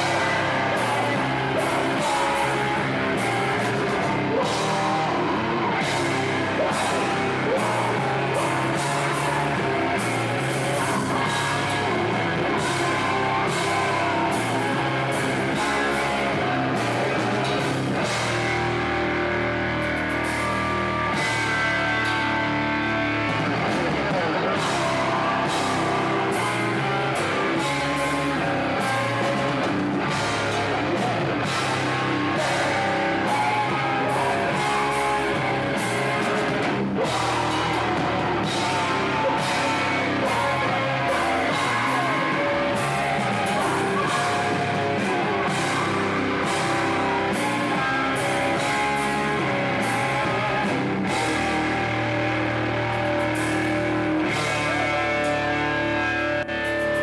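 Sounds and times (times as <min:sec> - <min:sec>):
bass guitar: 0:00.0 - 0:57.0
distorted electric guitars: 0:00.0 - 0:57.0.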